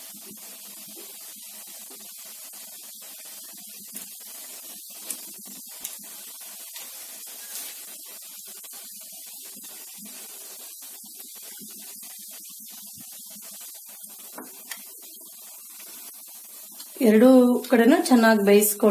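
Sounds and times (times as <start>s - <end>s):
food deep-frying in hot oil: 0.0s - 18.9s.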